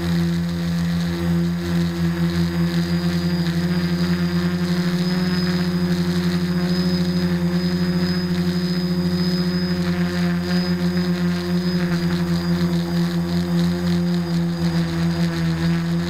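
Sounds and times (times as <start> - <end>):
drone propellers buzzing: 0.0 - 16.0.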